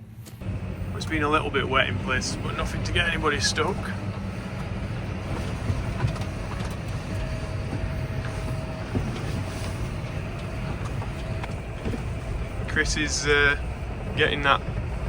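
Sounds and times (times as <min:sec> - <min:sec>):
tractor engine running: 0:00.0 - 0:15.0
faint steady whine: 0:00.2 - 0:15.0.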